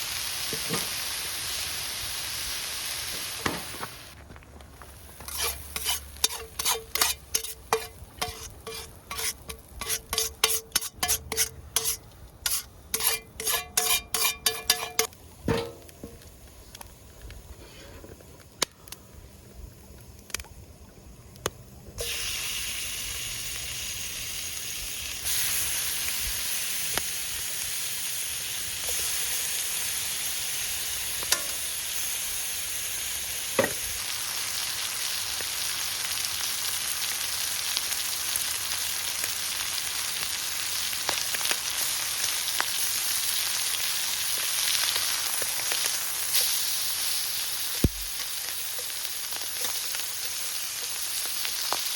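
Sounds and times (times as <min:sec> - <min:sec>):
food sizzling in hot oil: 0:00.0 - 0:04.2, 0:04.8 - 0:16.2, 0:22.0 - 0:51.9.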